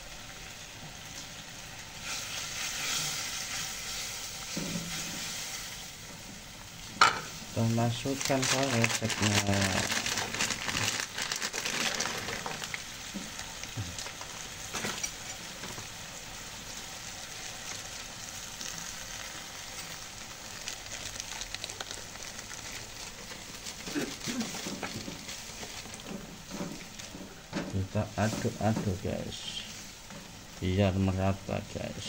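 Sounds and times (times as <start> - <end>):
chilli paste sizzling in pan: 0.0 - 32.0.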